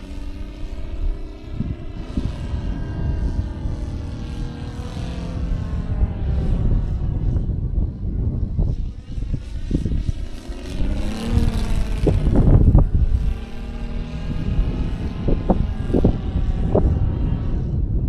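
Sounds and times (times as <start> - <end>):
model plane engine in flight: 0.0 - 18.0
low rumble with thumps: 0.8 - 18.0.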